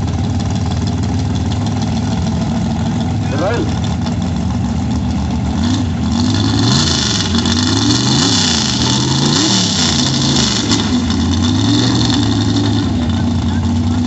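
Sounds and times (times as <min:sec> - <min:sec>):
engine revving with throttle blips: 0:01.5 - 0:14.0.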